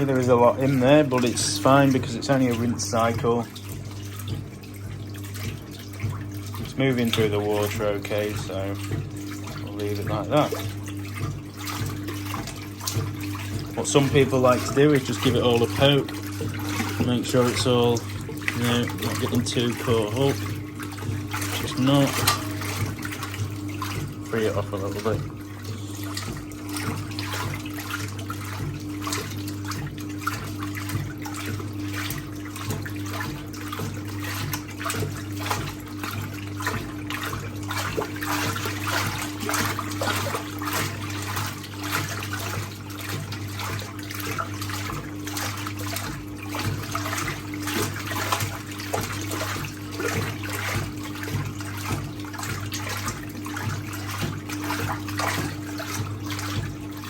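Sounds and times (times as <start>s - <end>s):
washing machine swishing and sloshing: 0.0s - 57.0s.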